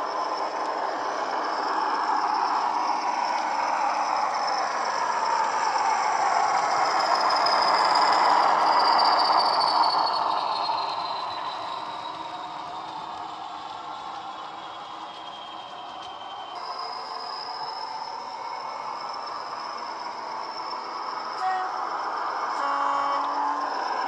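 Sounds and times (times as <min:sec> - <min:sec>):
high turbocharger whistle: 0:00.0 - 0:24.0.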